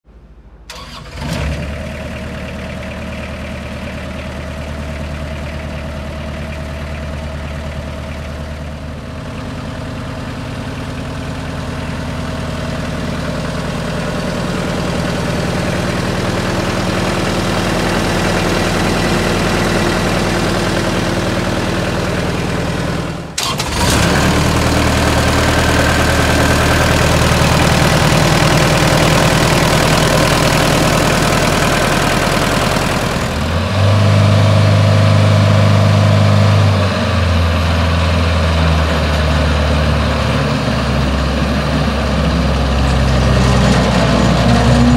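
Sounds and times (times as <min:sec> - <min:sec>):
diesel engine idling: 0:00.7 - 0:44.9.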